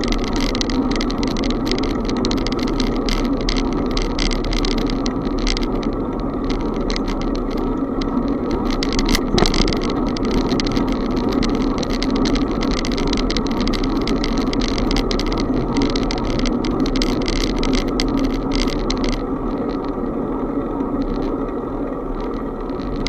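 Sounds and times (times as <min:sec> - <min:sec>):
bicycle rattling: 0:00.0 - 0:23.0
wind and road noise: 0:00.0 - 0:23.0.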